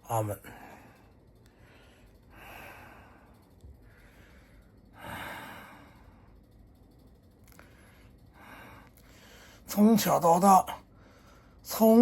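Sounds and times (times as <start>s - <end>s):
man breathing: 0.4s - 9.7s, 10.8s - 11.6s.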